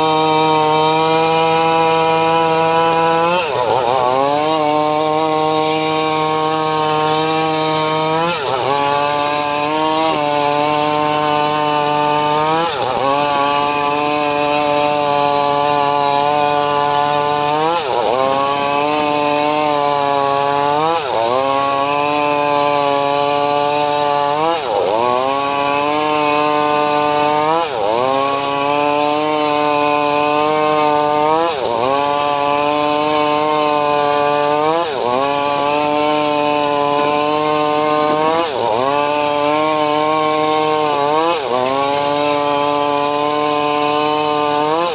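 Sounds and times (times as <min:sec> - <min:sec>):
motor-driven saw whining: 0:00.0 - 0:44.9.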